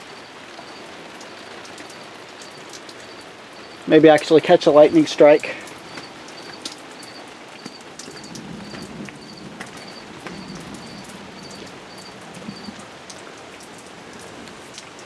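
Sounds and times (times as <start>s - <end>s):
close drips and splashes: 0.0s - 15.0s
heavy rain: 0.0s - 15.0s.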